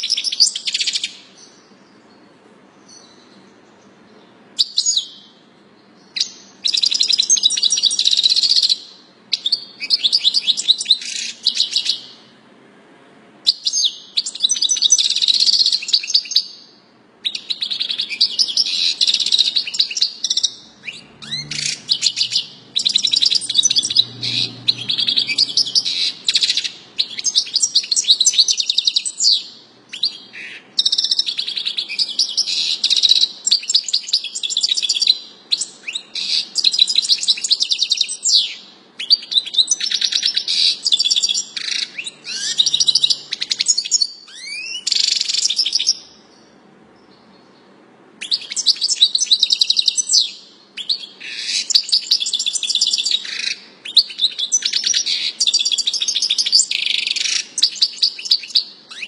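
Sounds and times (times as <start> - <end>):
bird singing chirping trills: 0.0 - 12.4, 13.4 - 59.0.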